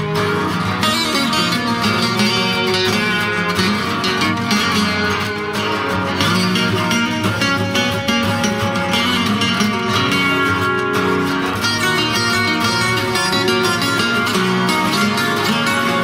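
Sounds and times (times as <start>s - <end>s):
guitar-led instrumental music: 0.0s - 16.0s.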